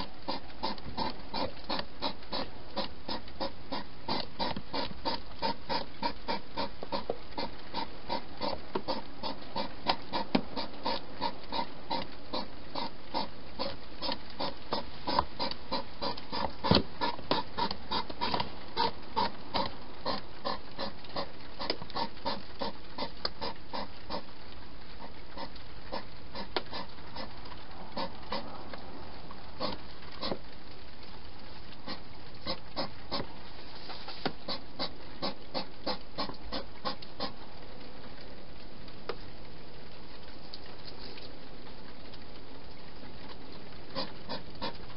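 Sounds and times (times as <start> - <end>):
hedgehogs chewing: 0.0 - 44.9.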